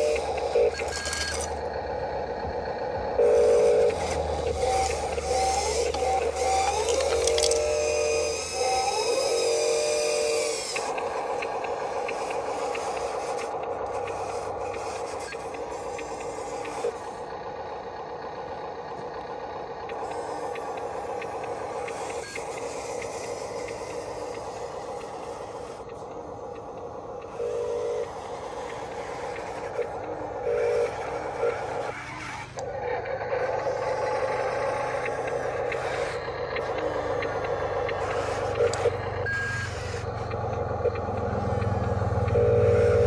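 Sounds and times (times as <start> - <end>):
small electric motors whining: 0.0 - 43.0.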